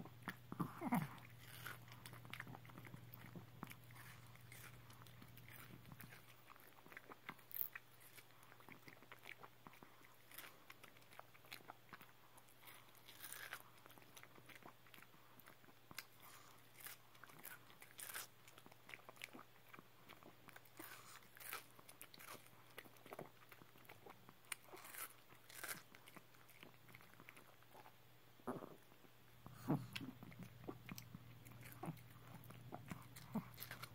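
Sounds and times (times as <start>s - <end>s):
dog chewing watermelon: 0.0s - 27.9s, 29.5s - 33.9s.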